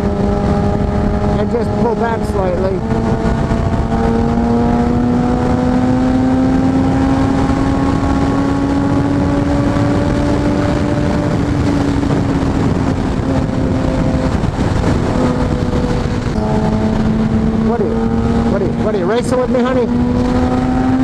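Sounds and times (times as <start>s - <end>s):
motorcycle engine at road speed: 0.0s - 21.0s
wind rush over microphone: 0.0s - 21.0s.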